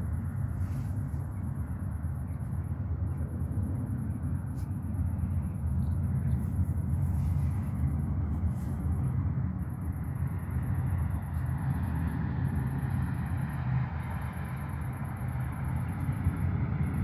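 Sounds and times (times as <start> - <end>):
distant traffic rumble: 0.0 - 17.0
faint pulsing high-pitched buzz: 0.0 - 17.0.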